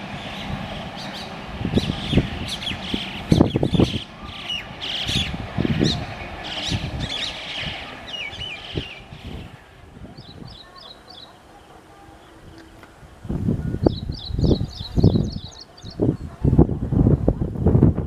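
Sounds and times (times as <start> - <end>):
birds chirping: 0.0 - 13.0, 13.6 - 16.4
train rumble: 0.0 - 18.0.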